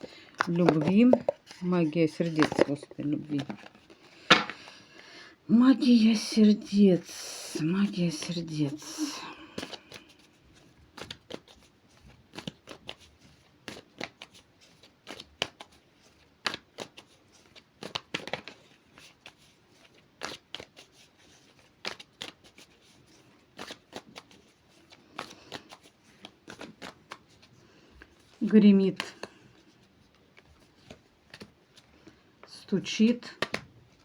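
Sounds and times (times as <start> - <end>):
cards being shuffled: 0.0 - 4.8, 7.5 - 34.0.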